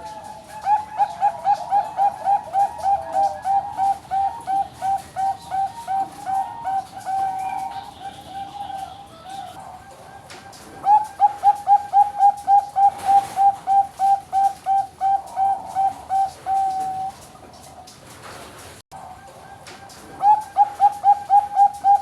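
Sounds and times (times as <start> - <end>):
dove cooing rapidly: 0.0 - 18.0, 19.0 - 22.0.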